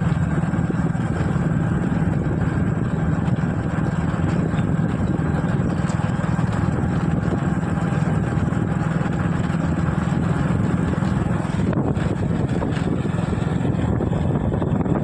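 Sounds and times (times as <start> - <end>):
small motorcycle engine running: 0.0 - 15.0
wind noise on microphone: 0.0 - 15.0.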